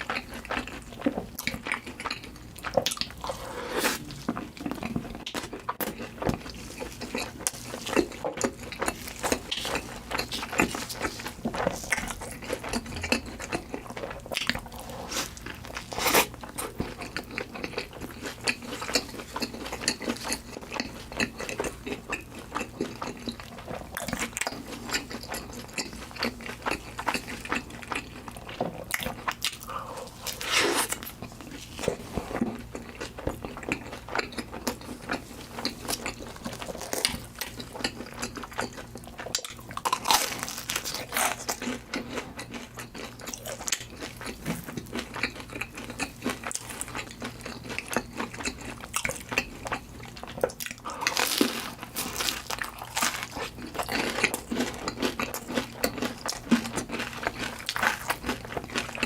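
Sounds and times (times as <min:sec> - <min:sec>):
chewing and crunchy bites: 0:00.0 - 0:59.0.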